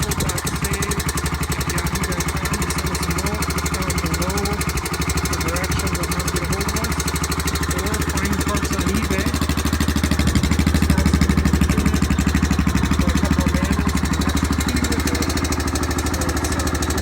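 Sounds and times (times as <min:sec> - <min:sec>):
atv engine idling: 0:00.0 - 0:17.0.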